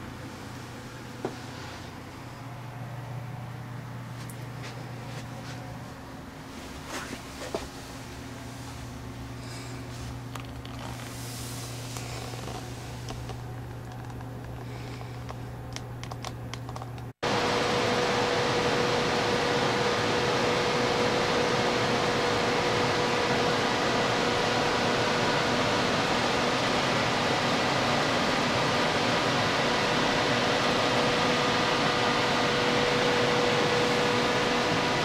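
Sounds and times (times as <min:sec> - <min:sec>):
air-handling fan rushing: 0:00.0 - 0:35.0
faint steady whine: 0:00.0 - 0:35.0
low steady hum: 0:00.0 - 0:35.0.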